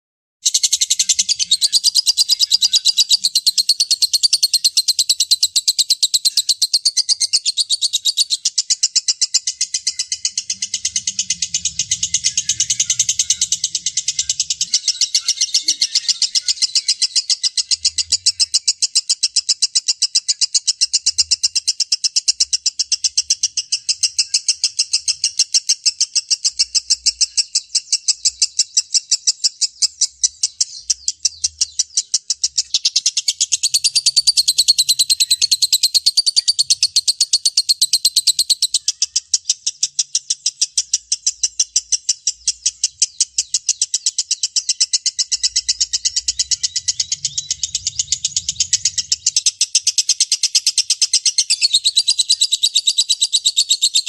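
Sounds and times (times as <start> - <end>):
lovebird chattering trill: 0.4 - 54.0.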